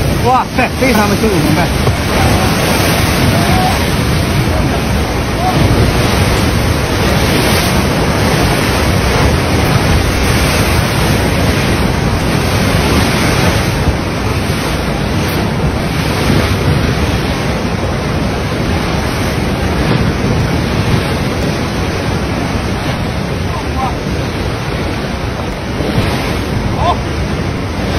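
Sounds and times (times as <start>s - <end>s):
large waves breaking against wall: 0.0s - 27.9s
wind buffeting microphone: 0.0s - 27.9s.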